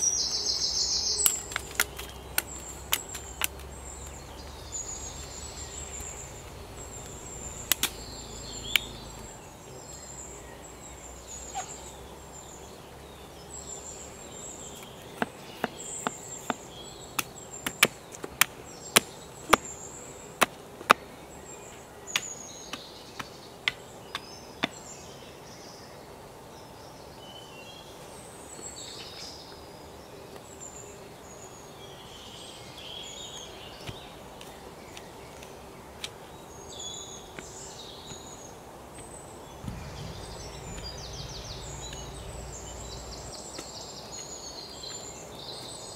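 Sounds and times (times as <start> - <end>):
small birds chirping: 0.0 - 25.8, 27.8 - 45.9.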